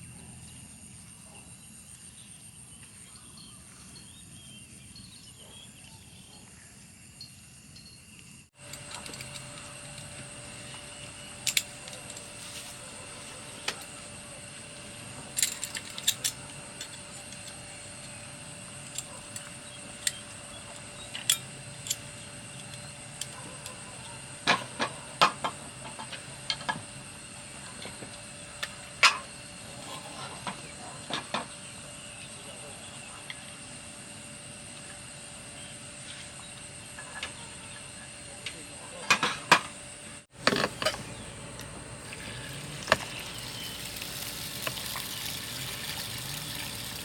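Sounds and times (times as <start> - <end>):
insect chorus: 0.0 - 47.0.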